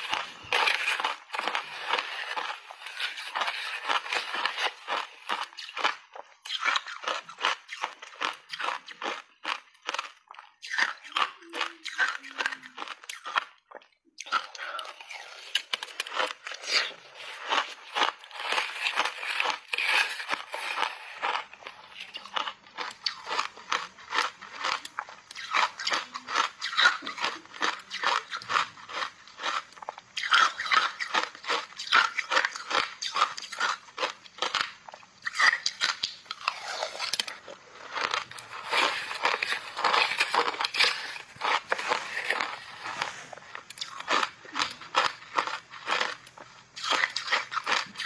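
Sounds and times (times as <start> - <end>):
crunching of shaved ice: 0.0 - 48.0.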